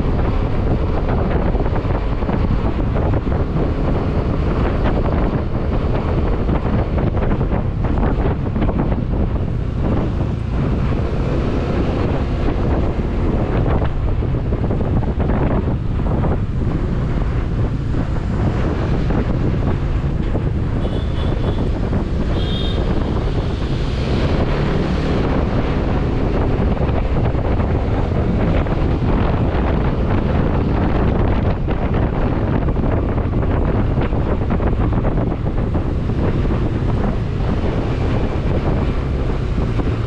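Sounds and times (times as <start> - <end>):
motorcycle engine: 0.0 - 40.0
road noise: 0.0 - 40.0
wind buffeting microphone: 0.0 - 40.0.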